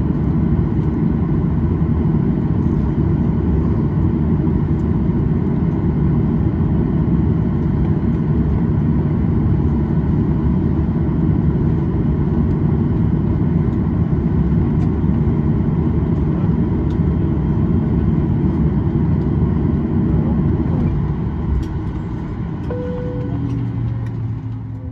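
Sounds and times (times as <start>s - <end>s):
jet engine rumble in cabin: 0.0s - 24.9s.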